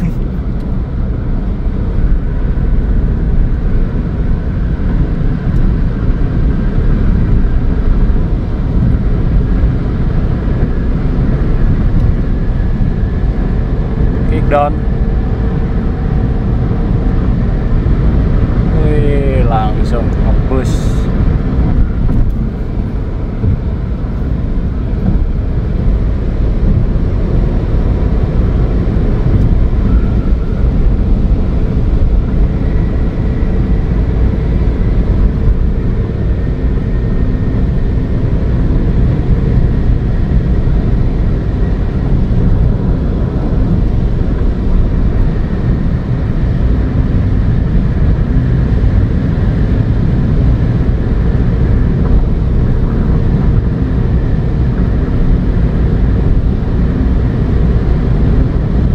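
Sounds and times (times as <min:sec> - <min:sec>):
car engine cruising: 0:00.0 - 0:58.9
road and wind noise in car: 0:00.0 - 0:58.9.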